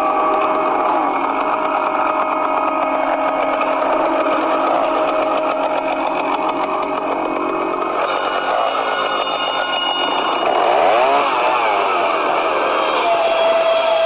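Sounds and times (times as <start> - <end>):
chainsaw engine idling: 0.0 - 14.0
high bright whine: 0.0 - 14.0.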